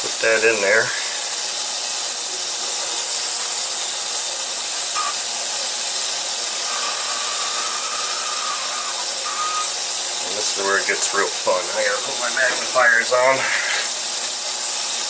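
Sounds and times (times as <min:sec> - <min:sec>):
ultrasonic cleaner hissing: 0:00.0 - 0:15.0.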